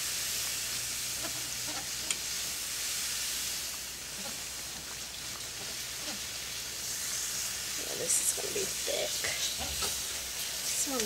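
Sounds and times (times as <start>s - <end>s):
gravy sizzling in skillet: 0.0s - 11.0s.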